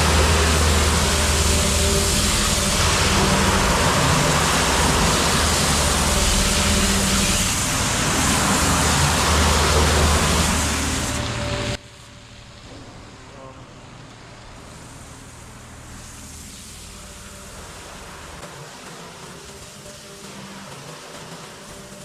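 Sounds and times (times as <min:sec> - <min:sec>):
diesel engine running: 0:00.0 - 0:18.5
water hose spraying: 0:00.0 - 0:22.0.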